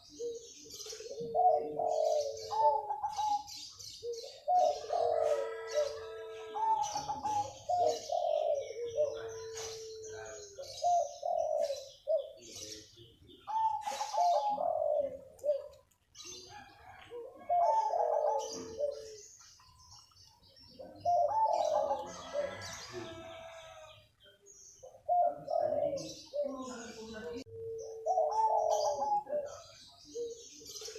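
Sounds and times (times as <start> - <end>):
dove cooing: 0.0 - 19.8, 20.6 - 24.1, 24.8 - 30.9
small birds chirping: 0.0 - 30.9.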